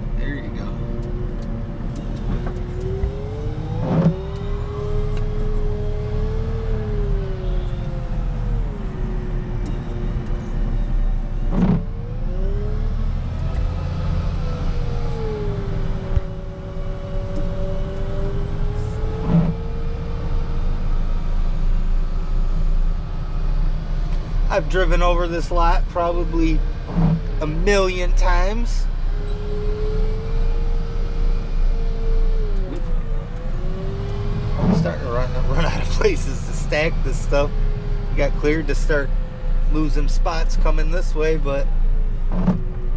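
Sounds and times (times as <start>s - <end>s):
wheel loader diesel engine: 0.0s - 42.9s.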